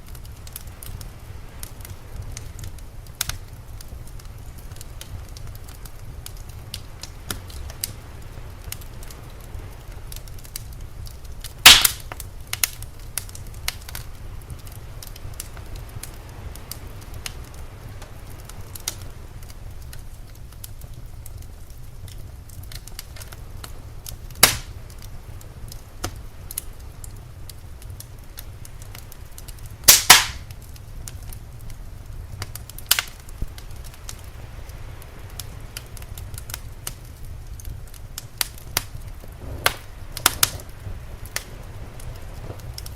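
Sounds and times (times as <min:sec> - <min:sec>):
fire crackling: 0:00.0 - 0:42.9
loud sharp pops of fire: 0:00.0 - 0:42.9
steady low rumble: 0:00.0 - 0:42.9.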